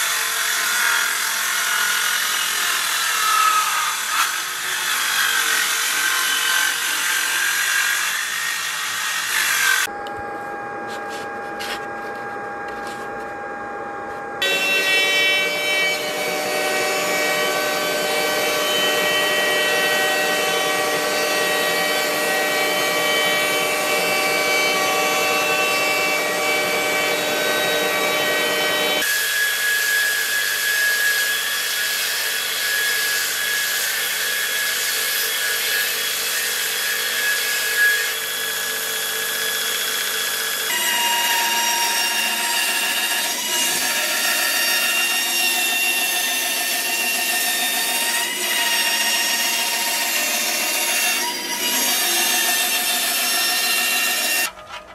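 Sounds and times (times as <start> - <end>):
table saw cutting wood: 0.0 - 9.9, 14.4 - 54.9
router whining cutting wood: 0.0 - 54.9.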